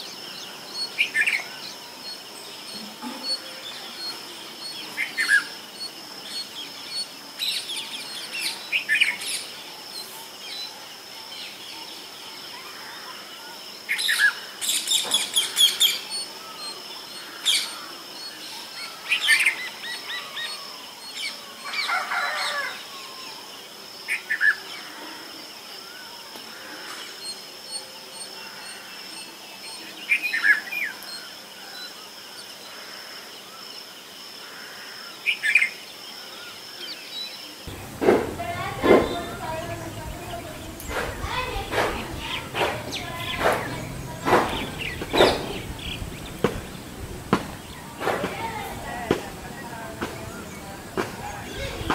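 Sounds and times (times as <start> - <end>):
birds chirping calls: 0.0 - 25.2, 34.6 - 51.9.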